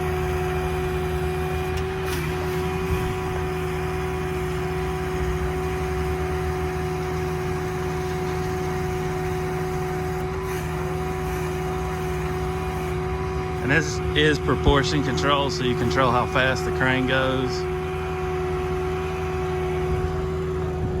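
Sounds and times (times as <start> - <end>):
diesel engine low rumble: 0.0 - 21.0
hydraulic pump hum: 0.0 - 21.0.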